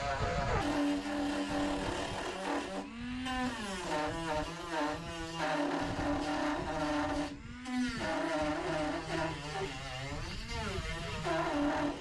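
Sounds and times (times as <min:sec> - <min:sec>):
rotary tool whining: 0:00.0 - 0:12.0.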